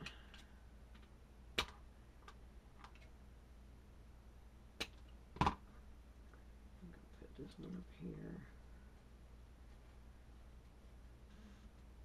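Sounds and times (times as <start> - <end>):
quiet low hum: 0.0 - 12.0.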